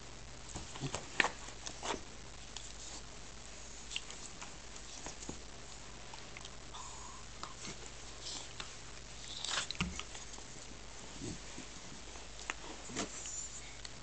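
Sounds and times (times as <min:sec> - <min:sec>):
faint low hum: 0:00.0 - 0:14.0
rustles of fur and skin: 0:00.5 - 0:06.7, 0:07.3 - 0:14.0.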